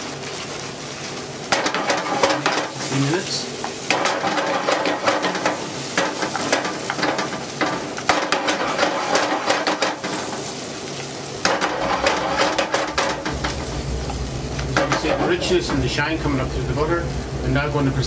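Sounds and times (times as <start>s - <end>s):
sauce sizzling: 0.0s - 18.0s.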